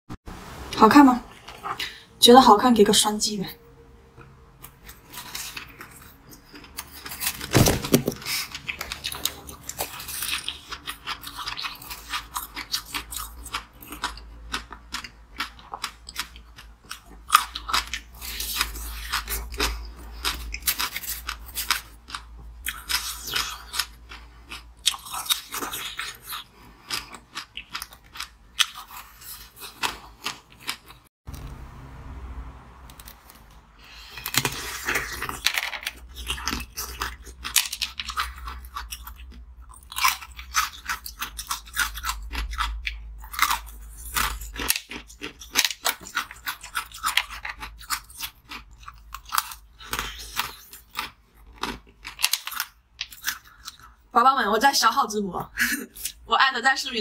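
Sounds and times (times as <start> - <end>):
chewing and crunching ice: 4.5 - 31.1, 33.0 - 54.2.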